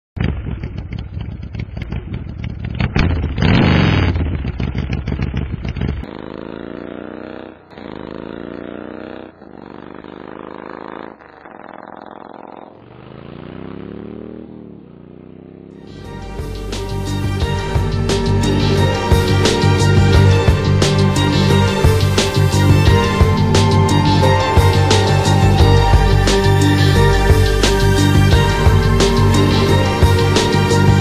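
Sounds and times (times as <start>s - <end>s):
motorcycle engine revving and accelerating: 0.2s - 31.0s.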